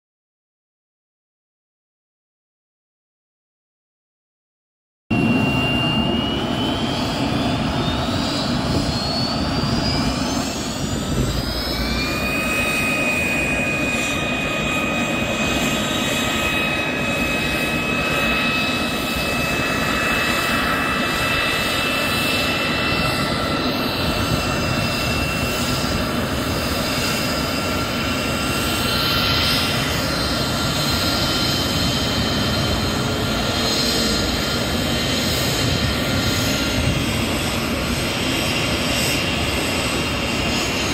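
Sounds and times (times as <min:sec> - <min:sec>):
jet engine whine: 0:05.1 - 0:40.9.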